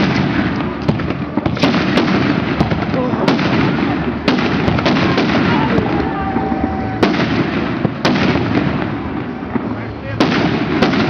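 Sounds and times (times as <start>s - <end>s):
fireworks crackling: 0.0s - 11.0s
fireworks shells exploding: 0.0s - 11.0s.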